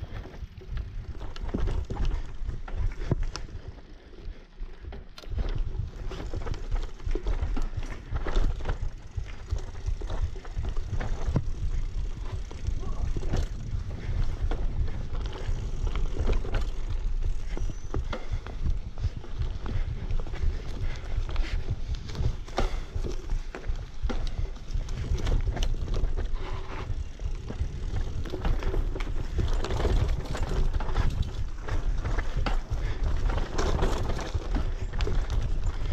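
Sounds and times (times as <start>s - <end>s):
bicycle rattling over dirt trail: 0.0s - 35.9s.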